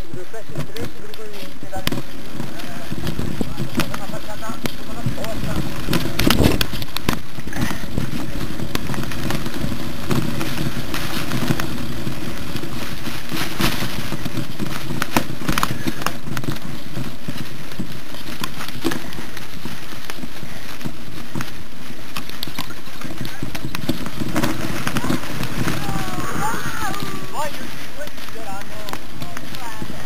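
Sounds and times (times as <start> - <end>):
bike clicks and rattles: 0.0 - 30.0
wind and tyre rumble: 0.0 - 30.0.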